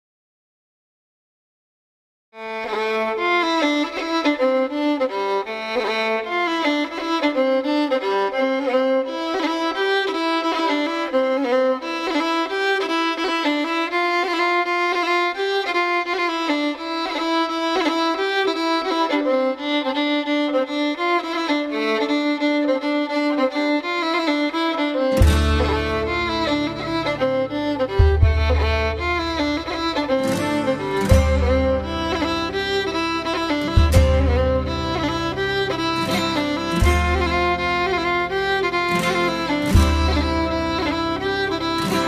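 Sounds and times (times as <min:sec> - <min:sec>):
fiddle melody: 0:02.4 - 0:42.0.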